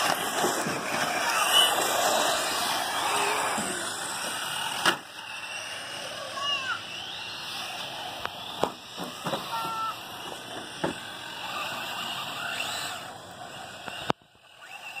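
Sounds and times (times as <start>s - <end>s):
rc car motor whine: 0.0s - 15.0s.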